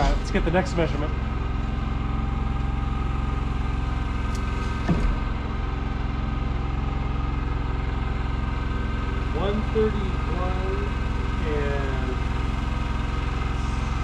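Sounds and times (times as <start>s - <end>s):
lift engine idling: 0.0s - 14.0s.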